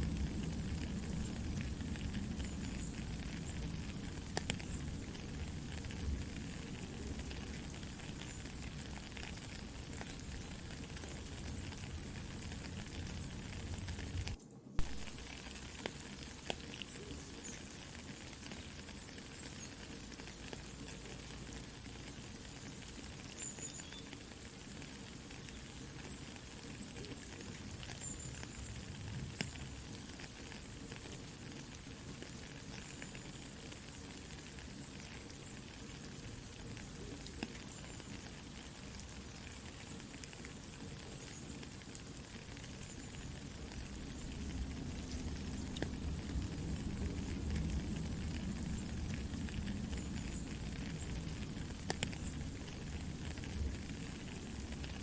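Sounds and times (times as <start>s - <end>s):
campfire crackling and popping: 0.0s - 55.0s
soft rain hiss: 0.0s - 55.0s.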